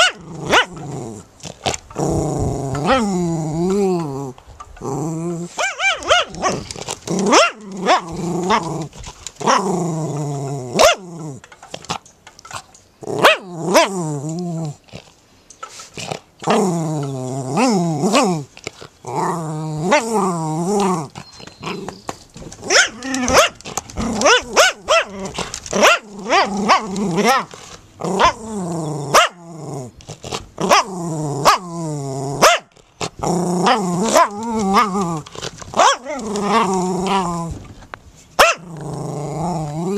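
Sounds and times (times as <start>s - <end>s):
dog barking and growling: 0.0s - 11.4s, 13.0s - 14.8s, 16.0s - 37.6s, 38.4s - 39.9s.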